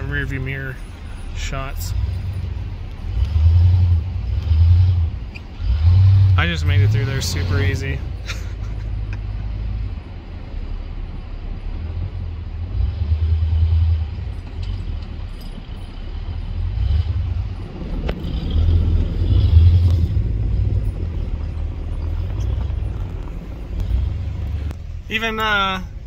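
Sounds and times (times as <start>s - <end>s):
off-road vehicle engine rumble: 0.0s - 26.0s.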